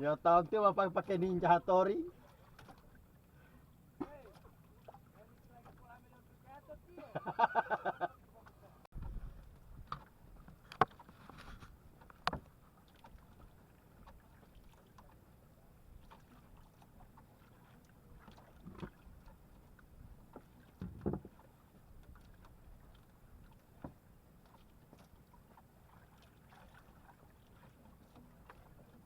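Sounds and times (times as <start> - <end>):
knocks and bumps in a boat: 0.0 - 29.0.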